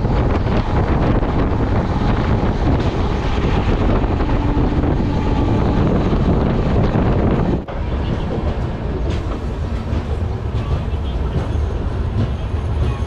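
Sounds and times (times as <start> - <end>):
wind rushing over microphone: 0.0 - 12.8
train wheels rumbling on track: 0.0 - 13.0.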